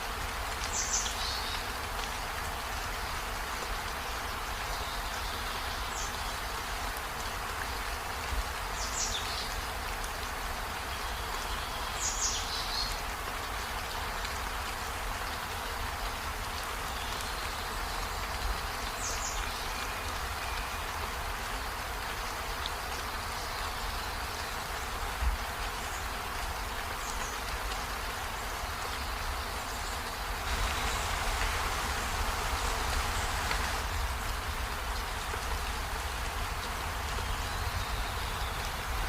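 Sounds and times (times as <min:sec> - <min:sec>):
rain falling on trees: 0:00.0 - 0:39.0.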